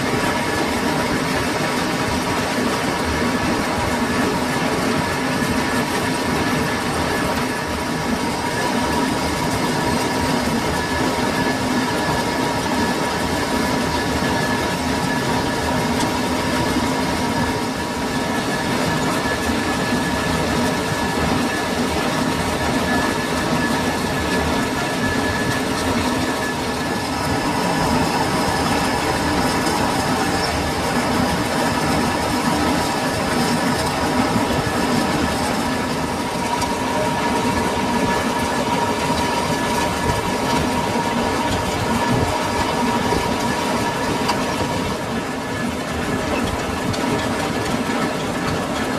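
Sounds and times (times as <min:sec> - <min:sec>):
metal lathe cutting: 0:00.0 - 0:48.9
thin steady whine: 0:00.0 - 0:48.9.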